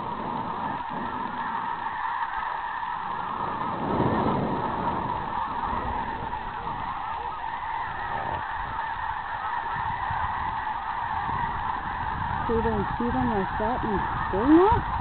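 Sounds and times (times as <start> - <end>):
geese honking in flight: 0.0 - 15.0.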